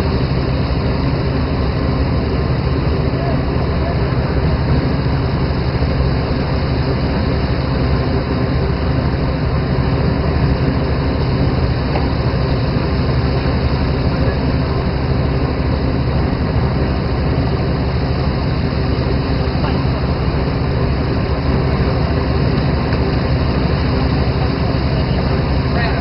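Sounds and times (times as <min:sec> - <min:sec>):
boat engine running: 0:00.0 - 0:26.0
water rushing along hull: 0:00.0 - 0:26.0.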